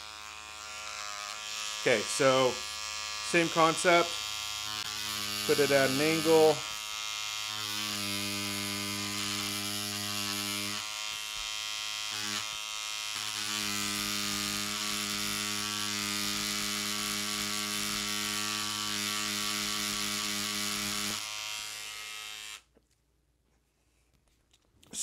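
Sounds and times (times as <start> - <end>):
tattoo machine buzzing: 0.0 - 22.7.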